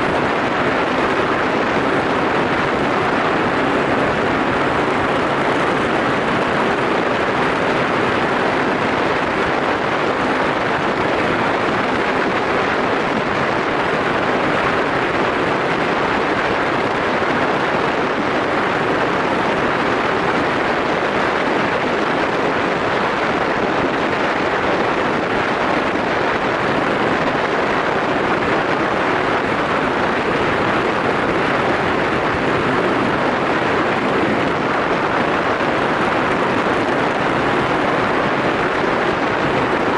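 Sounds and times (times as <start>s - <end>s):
motorcycle road noise: 0.0s - 39.9s.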